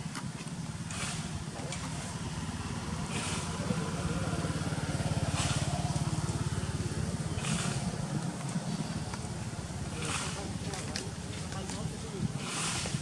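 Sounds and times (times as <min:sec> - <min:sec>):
small engine running: 0:00.1 - 0:13.0.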